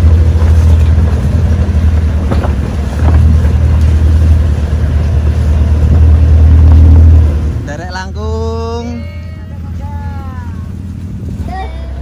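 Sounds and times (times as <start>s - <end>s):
off-road engine rumbling low: 0.0s - 12.0s.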